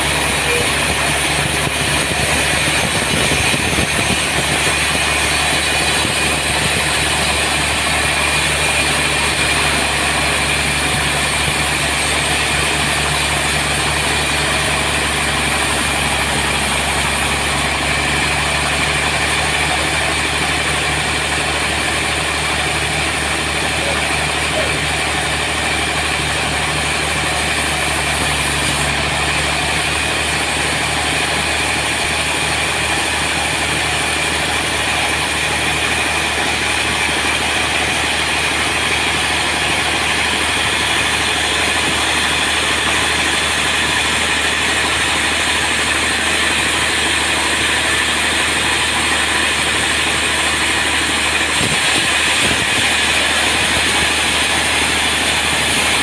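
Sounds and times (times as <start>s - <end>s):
high machine whine: 0.0s - 56.0s
sawmill machinery drone: 0.0s - 56.0s.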